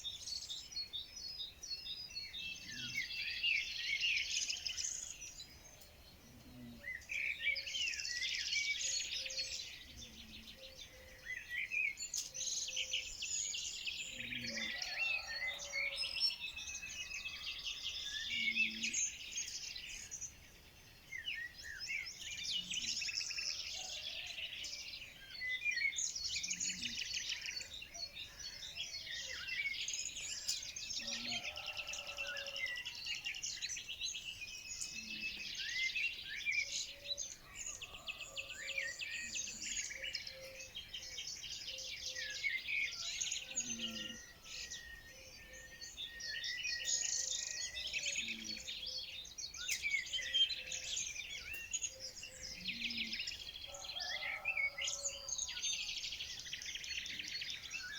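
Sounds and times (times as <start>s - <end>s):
small birds chirping chorus: 0.0s - 57.9s.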